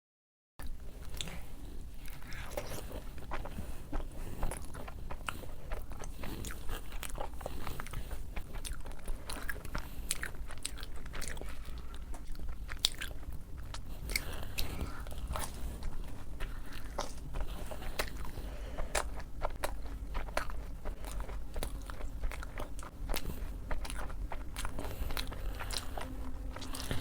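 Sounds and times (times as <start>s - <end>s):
close chewing with crunches: 0.6s - 27.0s
steady low hum: 0.6s - 27.0s.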